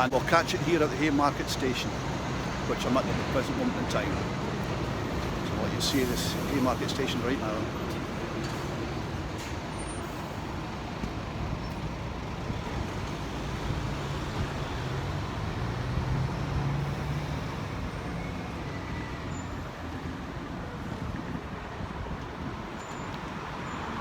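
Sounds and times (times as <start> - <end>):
heavy vehicle engine drone: 0.0 - 22.0
city street traffic: 0.0 - 24.0.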